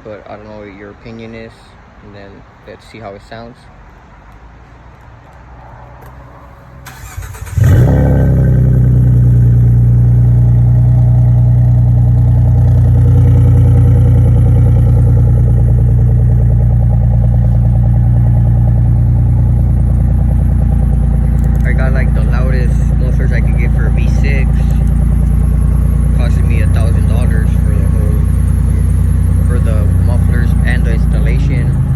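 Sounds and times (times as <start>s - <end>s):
car engine cranking: 6.0s - 31.9s
car engine revving and idling: 6.0s - 31.9s.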